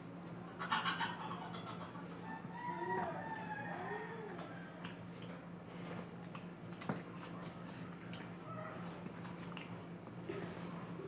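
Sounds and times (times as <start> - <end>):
people chewing food: 0.0 - 11.0
steady low hum: 0.0 - 11.0.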